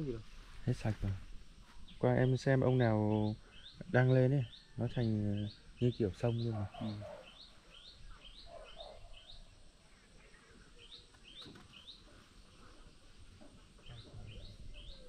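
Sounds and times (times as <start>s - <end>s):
bird chirping: 0.7s - 15.0s.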